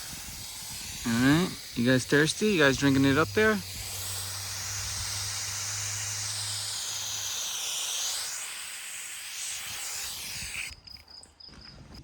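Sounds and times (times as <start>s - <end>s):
spray nozzle hissing mist: 0.0s - 10.8s.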